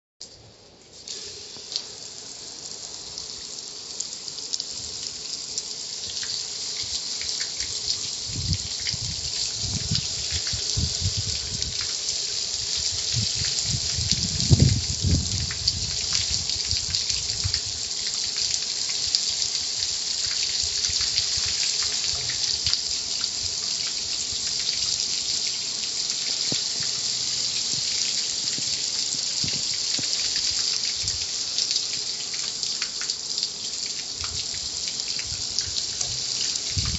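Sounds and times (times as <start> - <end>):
water spraying hiss: 0.9 - 36.9.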